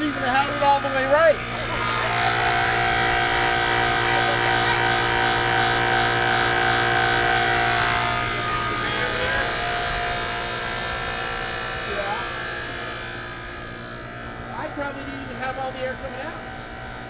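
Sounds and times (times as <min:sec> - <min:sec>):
air compressor motor hum: 0:00.0 - 0:17.0.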